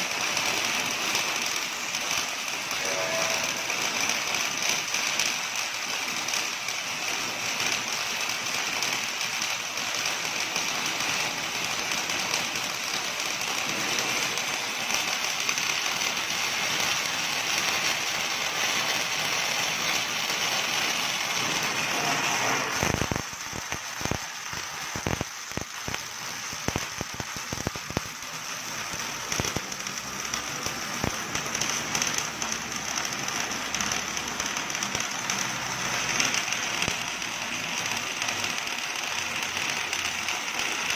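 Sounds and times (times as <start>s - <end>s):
sharp welding pops: 0.0s - 40.9s
welding arc crackling: 0.0s - 40.9s.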